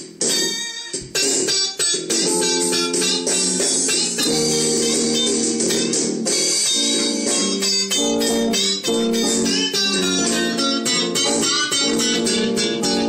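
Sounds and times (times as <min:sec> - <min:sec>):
guitars playing blues: 0:00.0 - 0:13.0.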